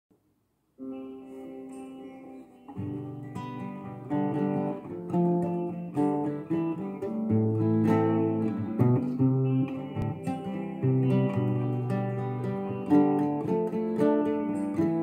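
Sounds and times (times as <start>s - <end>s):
classical guitar fingerpicking: 0.8s - 15.0s.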